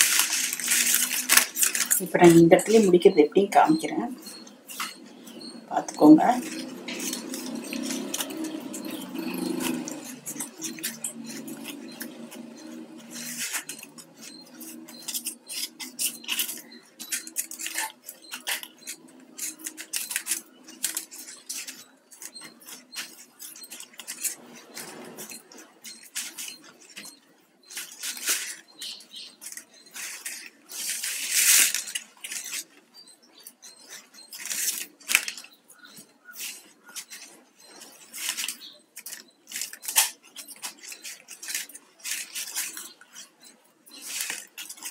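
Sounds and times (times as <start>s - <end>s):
plastic strands rustling and scraping: 0.0s - 44.9s.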